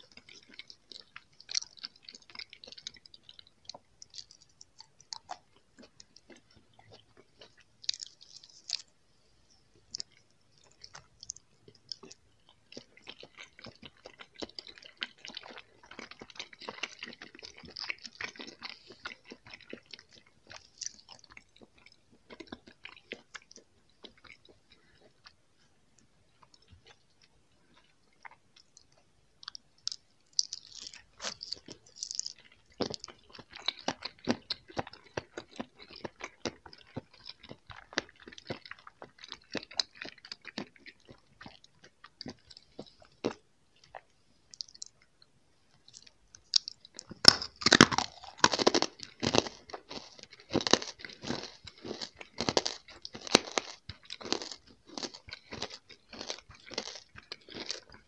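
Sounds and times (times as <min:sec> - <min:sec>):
chewing with wet mouth clicks: 0:00.0 - 0:09.0, 0:09.8 - 0:25.4, 0:26.0 - 0:58.0.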